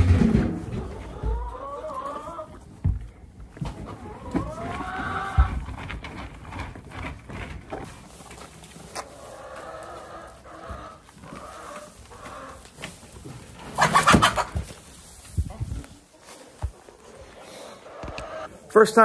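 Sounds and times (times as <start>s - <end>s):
rustling: 0.0s - 17.9s
drawn-out hen calls: 0.0s - 18.7s
hens clucking: 0.0s - 19.0s.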